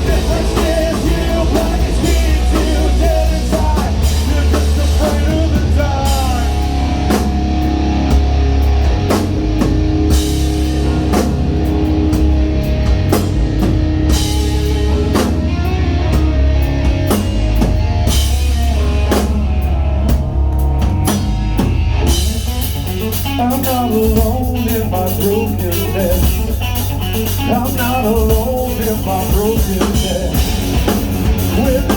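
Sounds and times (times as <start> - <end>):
distorted guitars: 0.0 - 31.9
drum kit: 0.0 - 31.9
heavy bass: 0.0 - 31.9.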